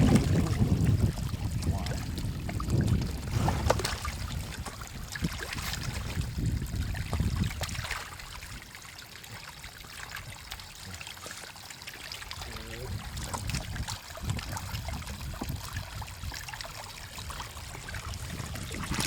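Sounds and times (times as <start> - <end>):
water trickling and splashing: 0.0 - 19.0.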